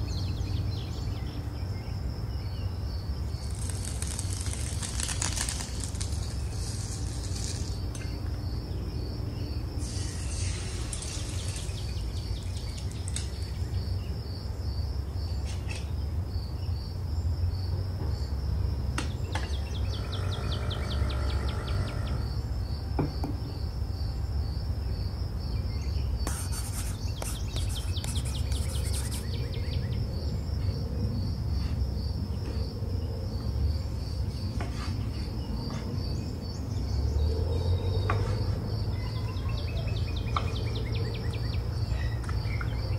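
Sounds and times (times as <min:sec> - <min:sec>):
low continuous hum: 0:00.0 - 0:42.9.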